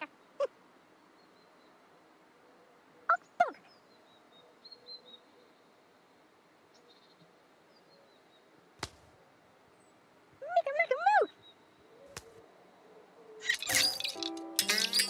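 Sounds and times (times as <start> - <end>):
faint high twittering birdsong: 0.0 - 15.0.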